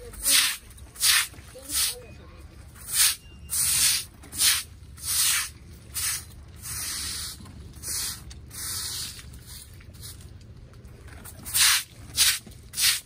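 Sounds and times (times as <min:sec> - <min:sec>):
broom scrubbing wet paving: 0:00.0 - 0:02.1, 0:02.8 - 0:13.0.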